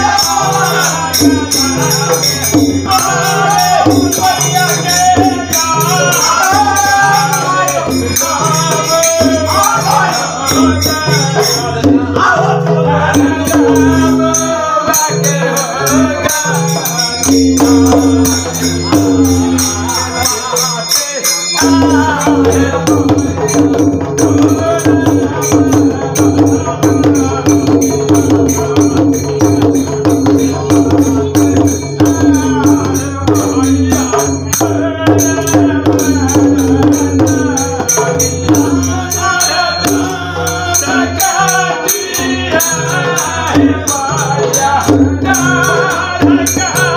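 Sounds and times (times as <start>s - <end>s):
hand cymbals clashing: 0.0s - 12.0s, 13.1s - 46.9s
hand drum beating: 0.0s - 20.9s, 21.6s - 46.9s
man singing: 0.0s - 46.9s.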